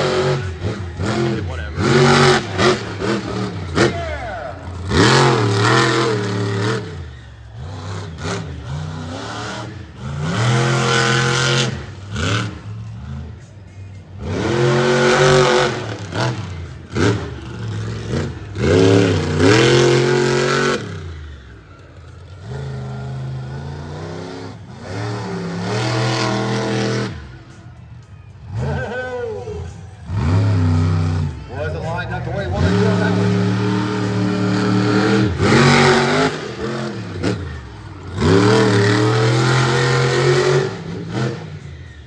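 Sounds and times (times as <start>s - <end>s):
truck engine revving hard: 0.0s - 42.0s.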